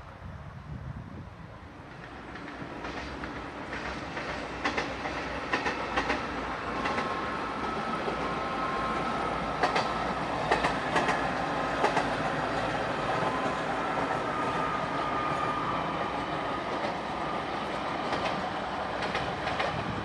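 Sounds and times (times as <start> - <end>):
train rumbling past: 0.0 - 20.0
wheels clicking over rail joints: 1.9 - 14.3, 16.0 - 20.0.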